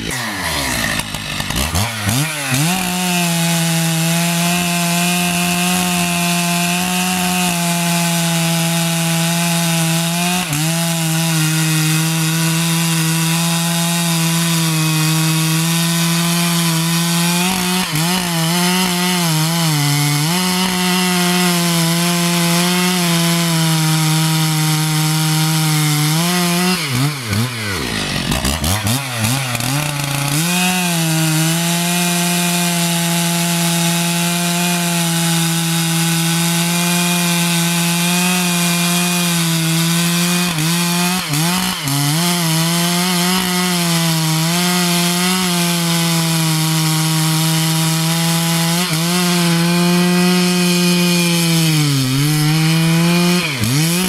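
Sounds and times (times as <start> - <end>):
chainsaw cutting through log: 0.0 - 54.0.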